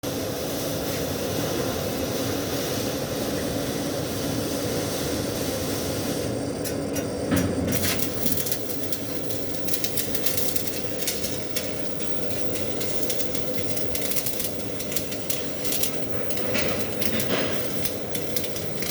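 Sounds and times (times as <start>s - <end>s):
steady low hum: 0.1s - 18.9s
welding arc hissing and crackling: 0.1s - 18.9s.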